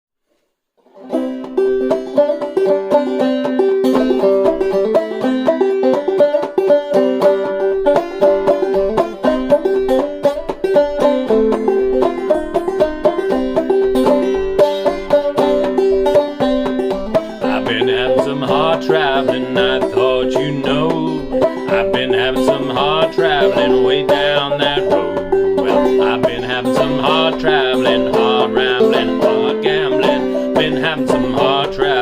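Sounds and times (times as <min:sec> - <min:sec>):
banjo strumming chords: 0:00.8 - 0:32.0.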